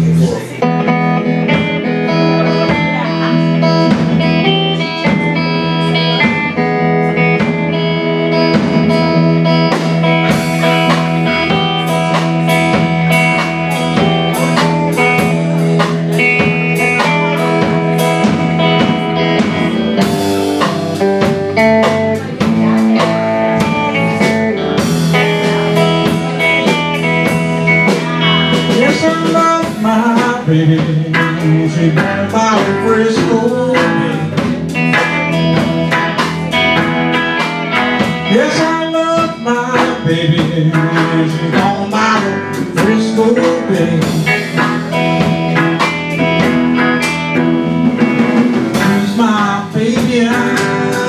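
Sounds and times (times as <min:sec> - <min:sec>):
blues band playing: 0:00.0 - 0:51.0.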